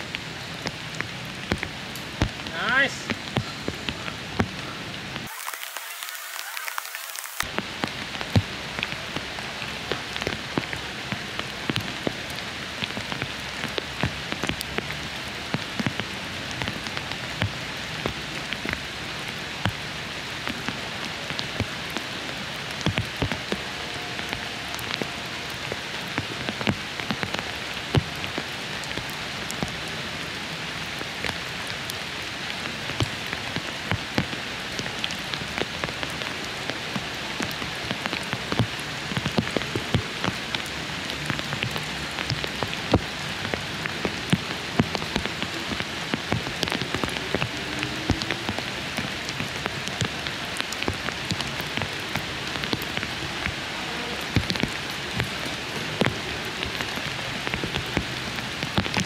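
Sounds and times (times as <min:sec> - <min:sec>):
raindrops ticking close by: 0:00.0 - 0:59.0
steady rain hiss: 0:00.0 - 0:59.0.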